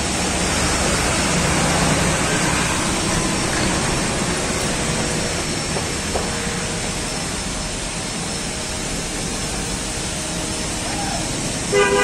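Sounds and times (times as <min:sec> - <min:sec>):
car engines passing: 0:00.0 - 0:12.0.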